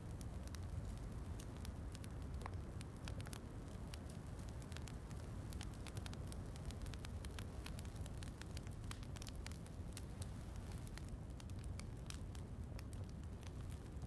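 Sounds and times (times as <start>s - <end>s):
fireplace crackling and popping: 0.0s - 14.0s.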